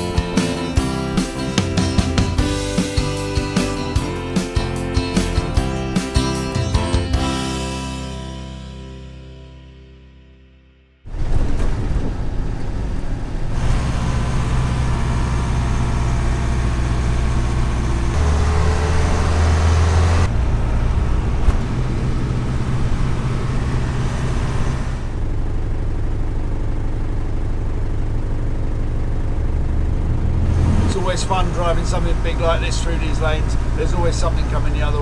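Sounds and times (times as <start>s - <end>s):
truck diesel engine running: 0.0s - 7.9s, 11.5s - 35.0s.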